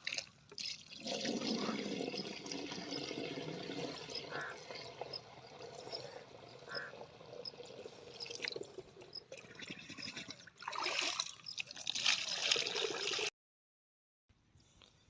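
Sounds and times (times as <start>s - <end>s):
water splashing and trickling: 0.0s - 13.3s.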